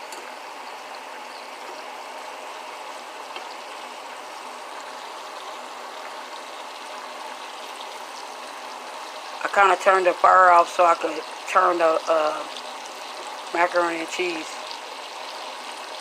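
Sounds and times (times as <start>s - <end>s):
ribs sizzling in hot oil: 0.0s - 16.0s.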